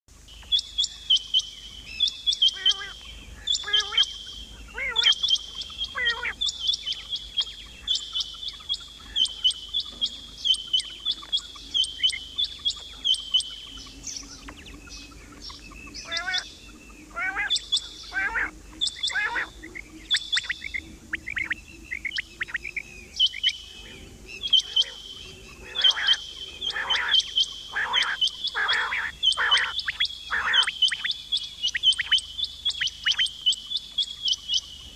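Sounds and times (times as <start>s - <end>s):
quail high rapid chirps: 0.4s - 34.9s.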